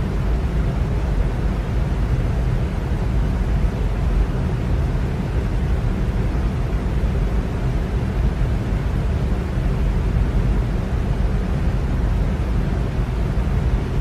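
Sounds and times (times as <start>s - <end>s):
electric fan running: 0.0s - 14.0s.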